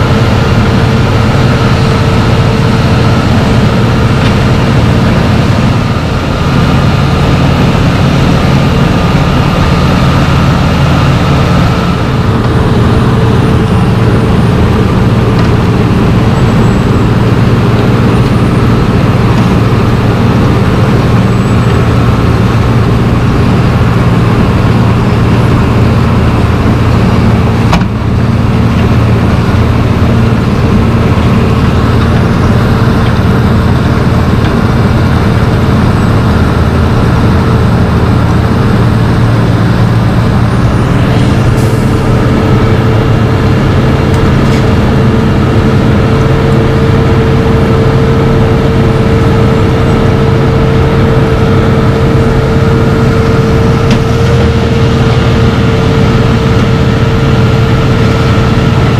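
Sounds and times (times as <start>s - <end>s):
heavy diesel machinery running: 0.0s - 58.9s.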